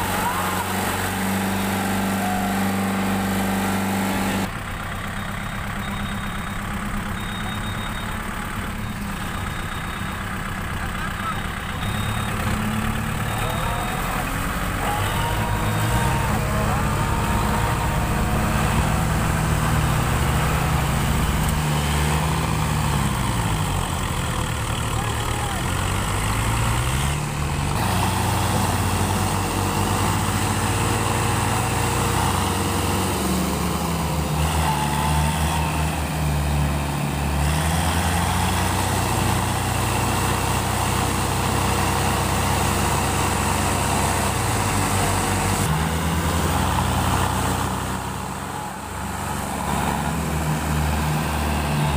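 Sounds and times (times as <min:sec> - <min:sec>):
diesel tractor engines running: 0:00.0 - 0:51.9.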